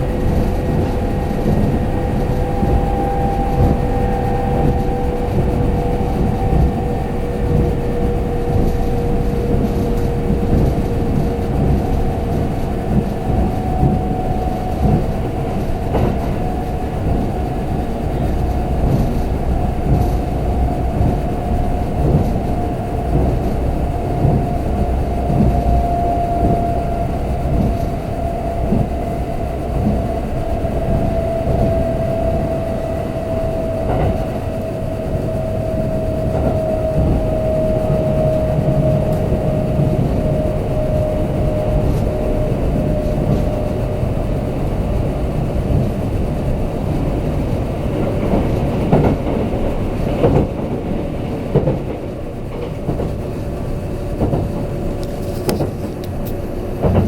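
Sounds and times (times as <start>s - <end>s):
train motor whine: 0.0s - 57.0s
train wheels rumbling on track: 0.0s - 57.0s.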